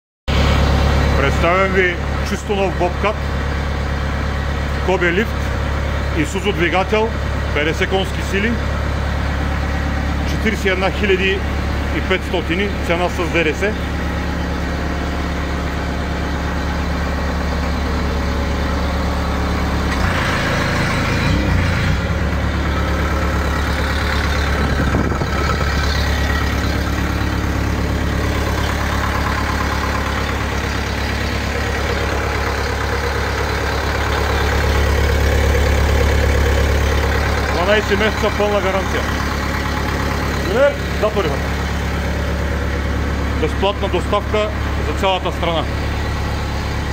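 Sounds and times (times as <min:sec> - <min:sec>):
diesel engine idling: 0:00.3 - 0:46.9.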